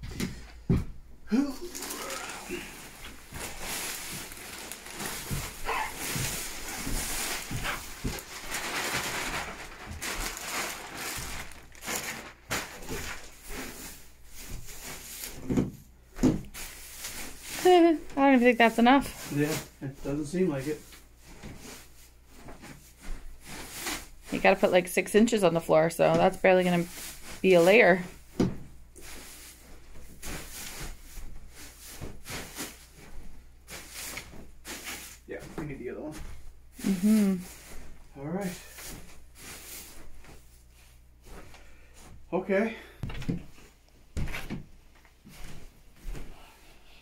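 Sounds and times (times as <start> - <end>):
bedding being poured and spread: 1.3 - 15.5, 16.5 - 28.3, 29.0 - 42.7.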